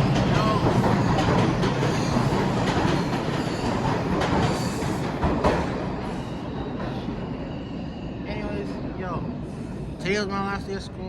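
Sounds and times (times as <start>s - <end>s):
subway train rumbling on rails: 0.0s - 11.0s.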